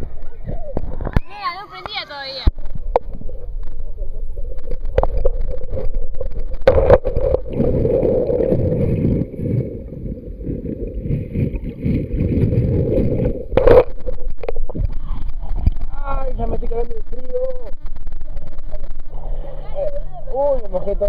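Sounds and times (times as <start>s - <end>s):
sharp thumps: 1.9s - 19.2s
underwater churning water: 2.5s - 21.0s.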